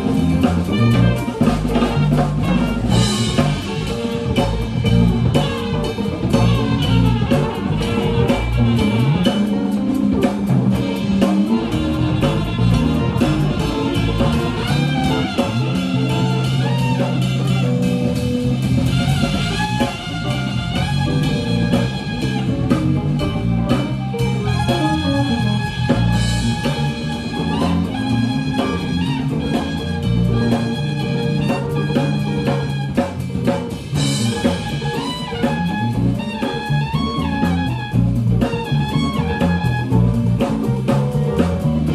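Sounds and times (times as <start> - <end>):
bass: 0.0 - 41.9
drum kit beat: 0.0 - 41.9.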